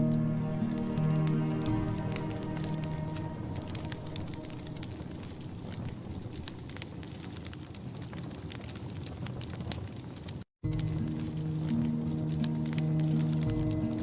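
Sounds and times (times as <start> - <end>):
fire hissing: 0.0 - 14.0
logs crackling and popping: 0.0 - 14.0.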